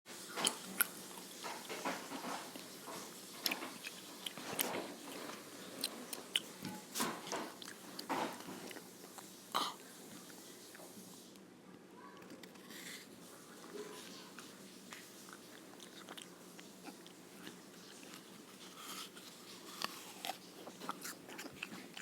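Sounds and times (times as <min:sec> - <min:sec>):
crunching and chewing snack: 0:00.3 - 0:10.8, 0:13.9 - 0:22.0.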